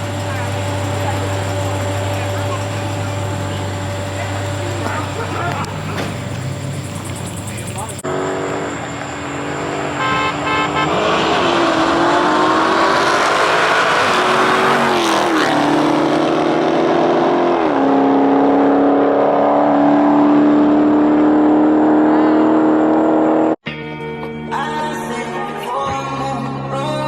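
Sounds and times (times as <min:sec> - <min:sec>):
car engine accelerating hard: 0:00.0 - 0:23.6.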